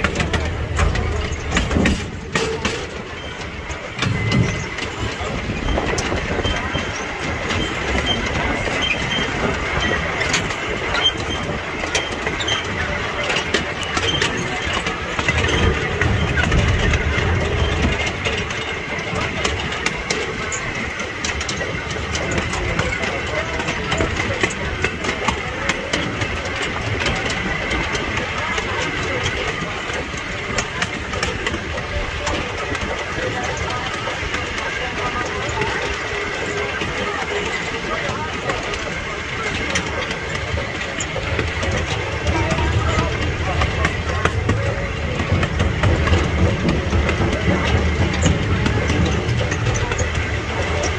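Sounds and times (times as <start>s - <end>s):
clicks from wheels and rails: 0.0s - 50.9s
miniature train rolling on track: 0.0s - 50.9s.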